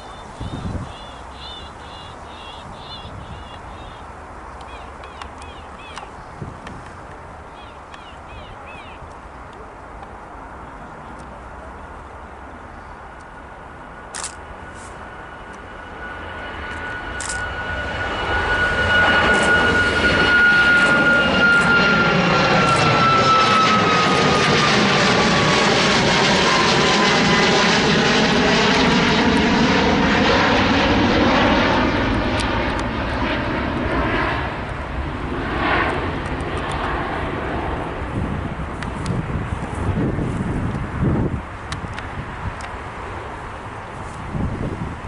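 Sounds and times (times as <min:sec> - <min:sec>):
jet aircraft taking off: 0:00.0 - 0:09.0, 0:10.5 - 0:45.0
high engine whine: 0:00.0 - 0:45.0.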